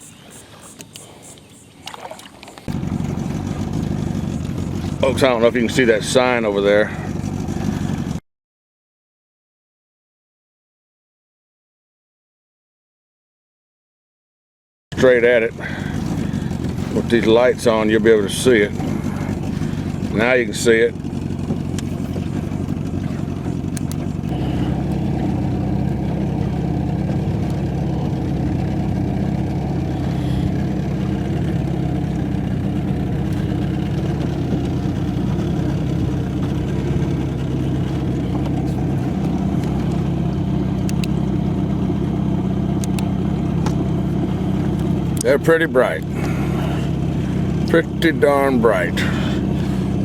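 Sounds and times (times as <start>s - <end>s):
boat engine running: 0.0s - 8.2s, 14.9s - 50.0s.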